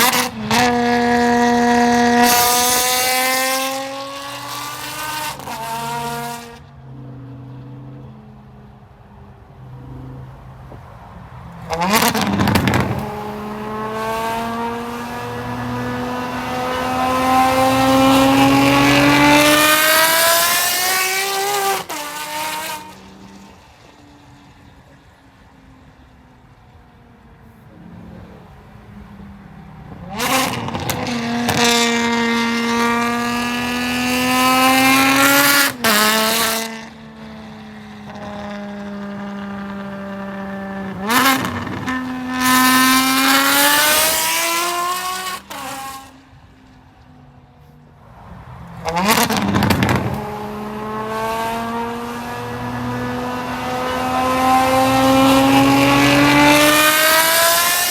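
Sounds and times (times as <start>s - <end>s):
car engine accelerating: 0.0s - 26.2s, 26.8s - 46.8s, 48.1s - 57.9s.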